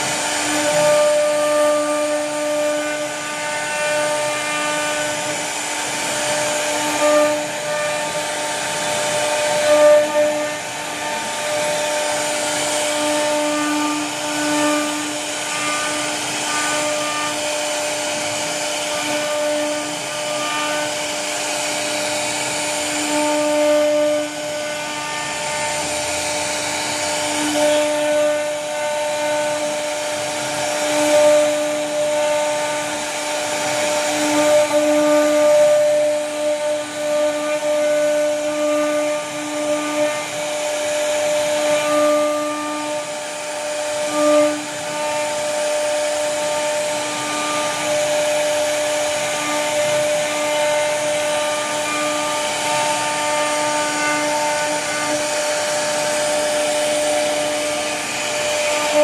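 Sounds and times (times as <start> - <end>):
cutting hiss: 0.0 - 59.0
router spindle whine: 0.0 - 59.0.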